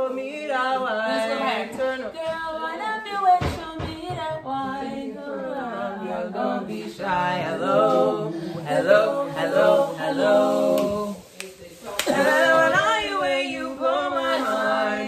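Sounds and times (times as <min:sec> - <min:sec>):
women singing a cappella: 0:00.0 - 0:15.0.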